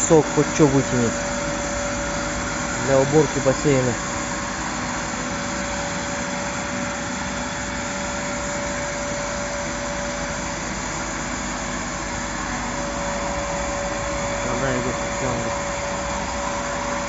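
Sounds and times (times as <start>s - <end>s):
pool vacuum motor whining: 0.0s - 17.0s.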